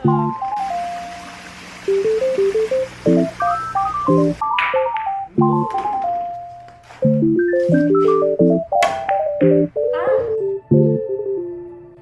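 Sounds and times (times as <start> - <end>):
light electronic melody: 0.0 - 12.0.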